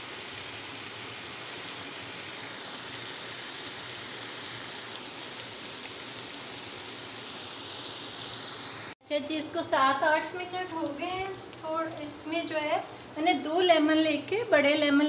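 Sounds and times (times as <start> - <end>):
minced meat sizzling in a pan: 0.0 - 15.0.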